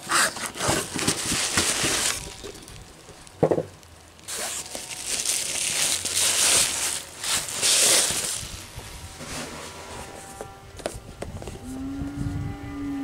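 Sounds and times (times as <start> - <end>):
plastic bag and foam crinkling: 0.0 - 11.8.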